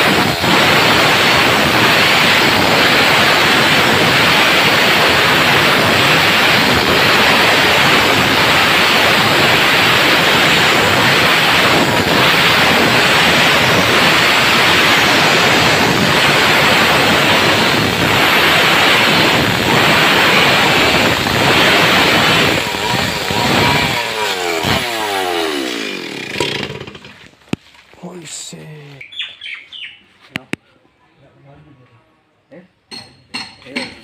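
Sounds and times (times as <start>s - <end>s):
chainsaw cutting wood: 0.0s - 27.6s.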